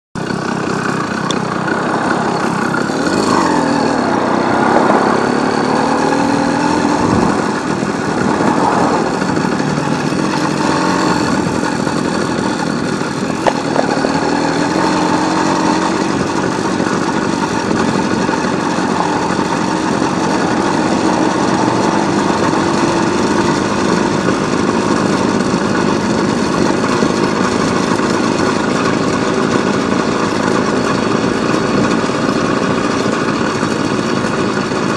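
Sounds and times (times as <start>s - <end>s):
road and wind noise: 0.2s - 34.9s
small motorcycle engine running: 0.2s - 34.9s.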